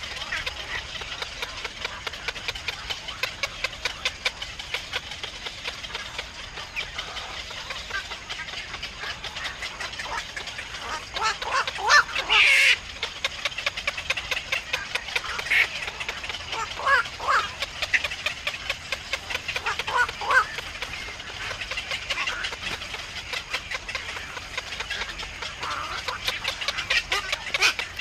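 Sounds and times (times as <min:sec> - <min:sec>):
herons squawking: 0:00.0 - 0:28.0
herons ticking: 0:00.0 - 0:28.0.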